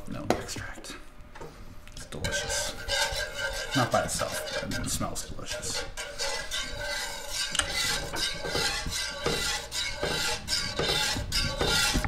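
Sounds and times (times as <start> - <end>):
whisk scraping a pan: 2.0 - 12.0.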